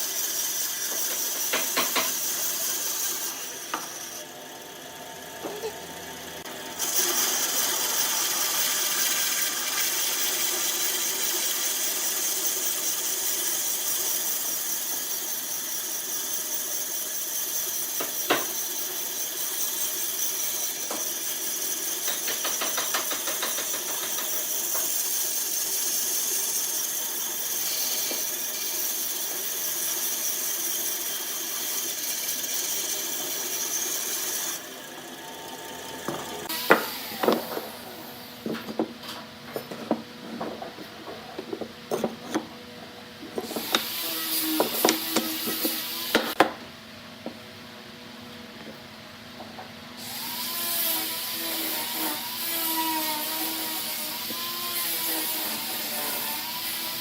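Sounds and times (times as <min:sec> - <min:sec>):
electric power tool whining: 0:00.0 - 0:19.0, 0:20.1 - 0:40.7, 0:43.2 - 0:46.4, 0:50.0 - 0:57.0.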